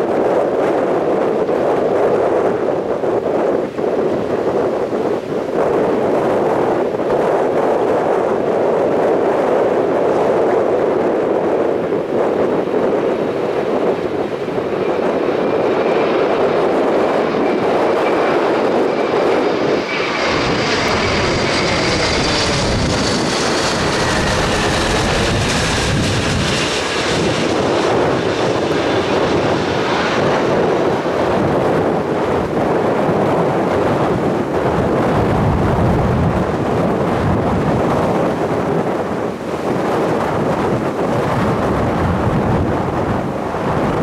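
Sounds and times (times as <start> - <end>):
jet engines passing close: 0.0 - 44.0.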